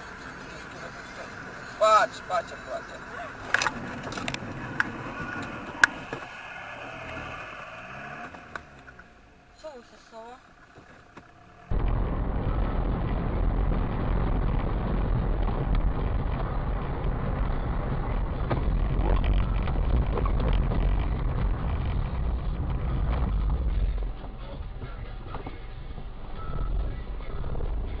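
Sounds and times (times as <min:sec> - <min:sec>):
moving car road and engine noise: 0:00.0 - 0:28.0.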